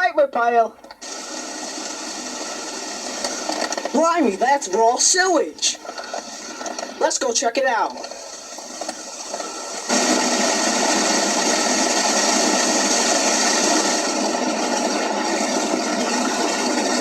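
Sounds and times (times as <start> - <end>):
pouring water rushing: 0.9 - 17.0.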